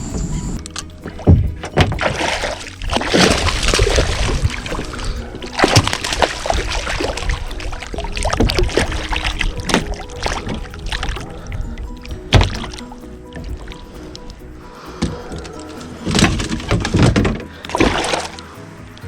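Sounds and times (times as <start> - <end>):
water splashing around kayak: 0.4 - 19.0.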